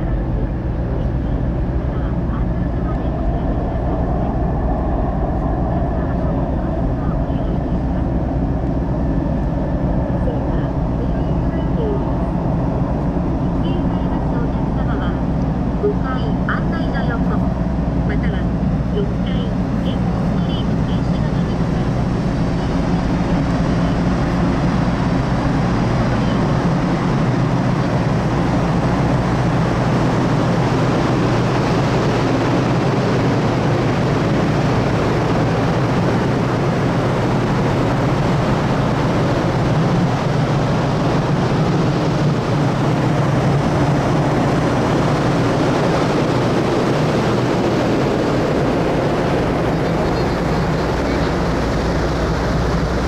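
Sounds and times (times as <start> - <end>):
even rush of noise: 0.0 - 53.0
ferry engines droning: 0.0 - 53.0.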